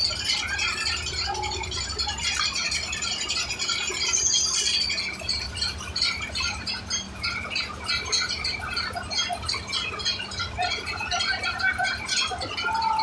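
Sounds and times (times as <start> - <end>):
engine rumble: 0.0 - 13.0
rhythmic high squeaks and rattles: 0.0 - 13.0.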